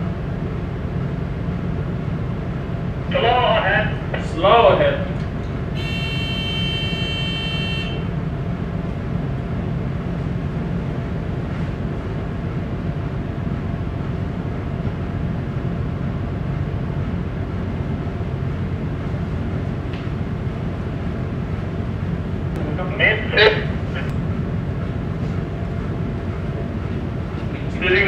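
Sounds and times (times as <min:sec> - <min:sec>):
ship engine rumble: 0:00.0 - 0:28.0.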